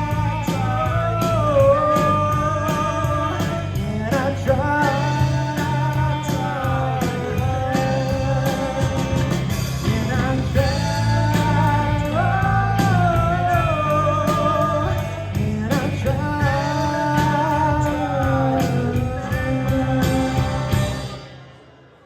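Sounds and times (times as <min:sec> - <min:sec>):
live rock band playing: 0:00.0 - 0:21.7.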